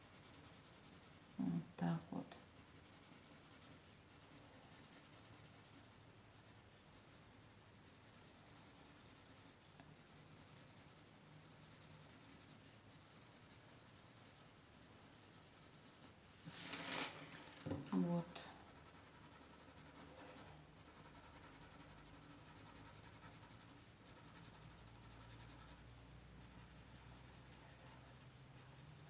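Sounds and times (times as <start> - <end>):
marker scratching on paper: 0.0 - 16.8, 17.9 - 29.0.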